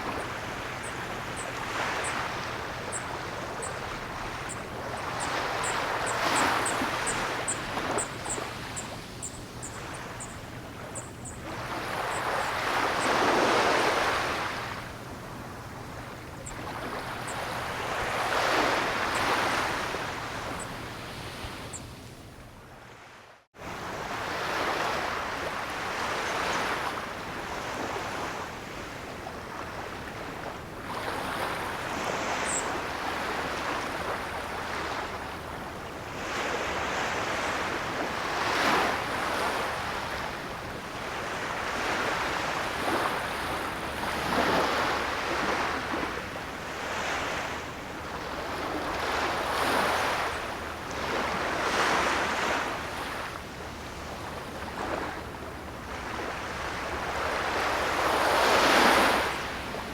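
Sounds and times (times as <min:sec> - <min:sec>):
ocean waves breaking: 0:00.0 - 0:21.8, 0:23.0 - 0:59.9.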